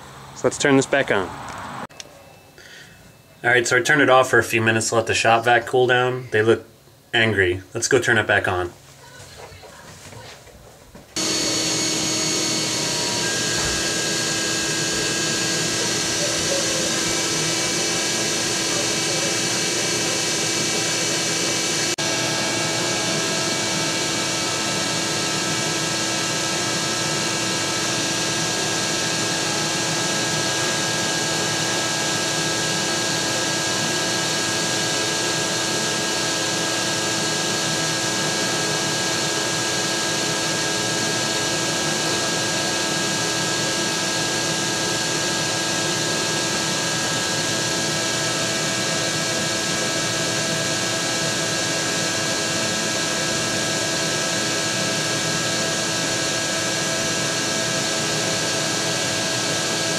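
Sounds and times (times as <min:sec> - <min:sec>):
wet dry vacuum motor whine: 0:11.2 - 0:59.9.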